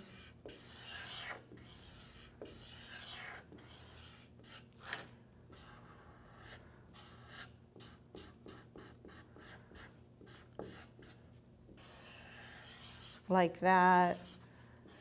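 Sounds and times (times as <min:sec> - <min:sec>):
marker scratching on paper: 0:00.0 - 0:15.0.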